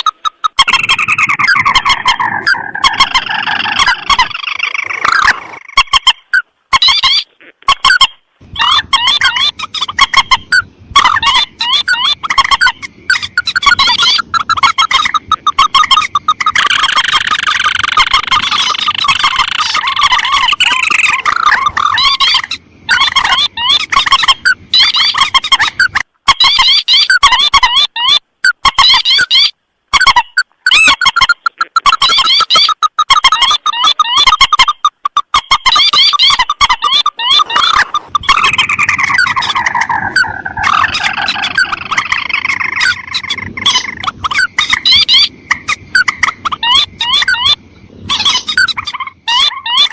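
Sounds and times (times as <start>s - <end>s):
rails and crakes calling: 0.0s - 49.9s.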